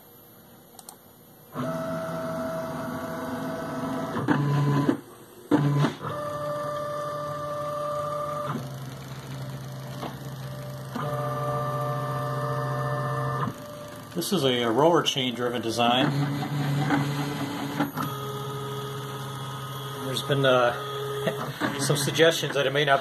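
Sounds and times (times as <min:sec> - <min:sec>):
stepper motors whining: 0:01.6 - 0:23.0.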